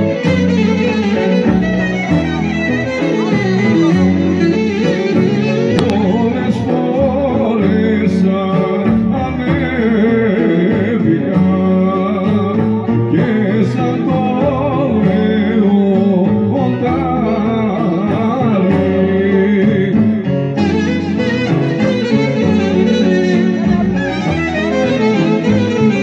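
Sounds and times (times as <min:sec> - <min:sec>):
violin and string instruments: 0:00.0 - 0:26.0
person singing: 0:02.8 - 0:26.0.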